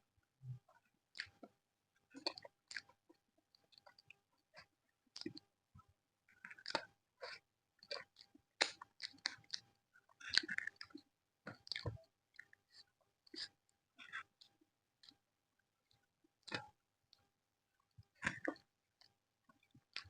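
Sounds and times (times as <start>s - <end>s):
person chewing with wet smacks: 0.4s - 20.0s.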